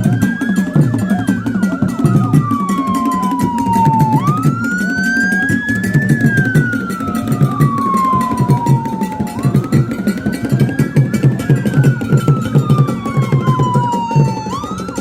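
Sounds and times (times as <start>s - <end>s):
steady drum beat: 0.0s - 15.0s
wailing siren: 0.0s - 15.0s.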